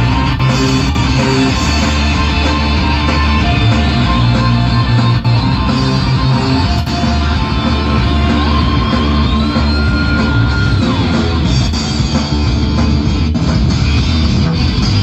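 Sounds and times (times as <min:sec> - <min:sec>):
loud bass-heavy music on loudspeakers: 0:00.0 - 0:15.0.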